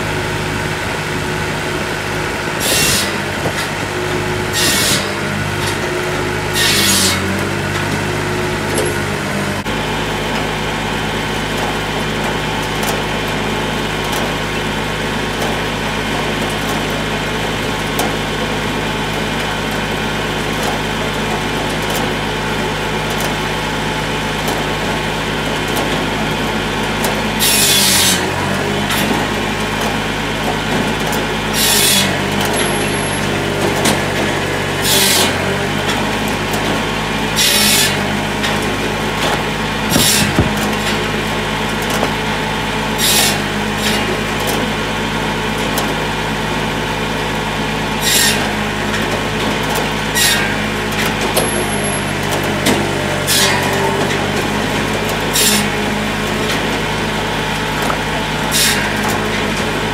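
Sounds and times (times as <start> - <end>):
saw cutting through wood: 0.0 - 59.9
tractor engine running: 0.0 - 59.9.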